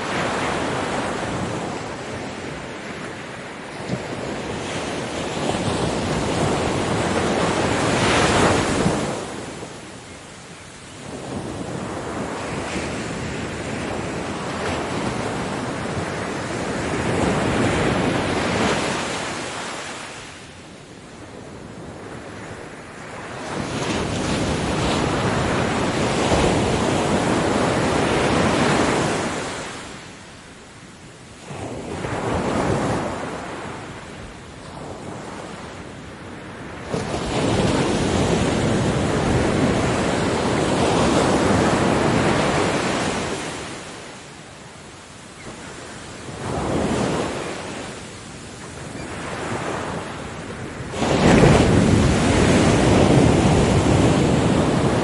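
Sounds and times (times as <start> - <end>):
ocean waves breaking: 0.0 - 30.6, 31.3 - 55.0.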